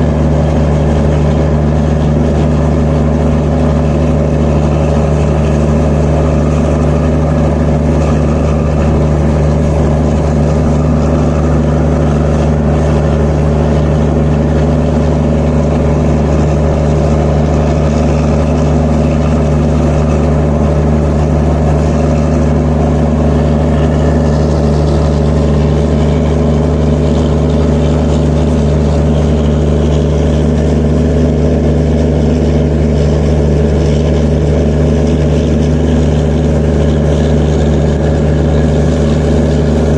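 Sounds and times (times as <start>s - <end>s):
diesel generator humming: 0.0s - 39.9s.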